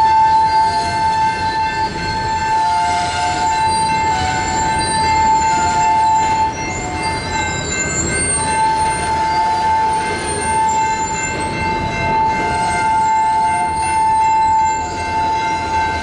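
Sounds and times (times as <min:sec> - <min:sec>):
higher wheel squeals: 0:00.0 - 0:16.0
rumble of freight cars: 0:00.0 - 0:16.0
train wheels screeching on rail: 0:00.0 - 0:16.0.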